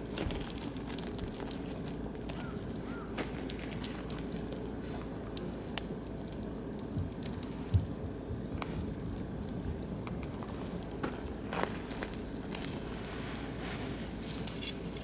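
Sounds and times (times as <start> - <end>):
low hiss of fire: 0.0 - 15.0
wood fire crackling and popping: 0.0 - 15.0.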